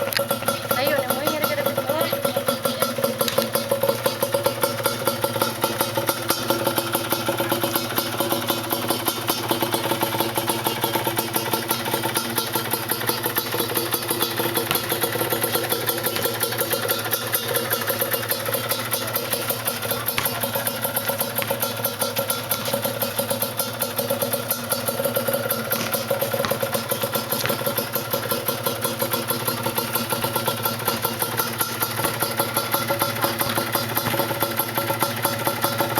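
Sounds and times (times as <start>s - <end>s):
two-stroke engine idling: 0.0s - 35.9s.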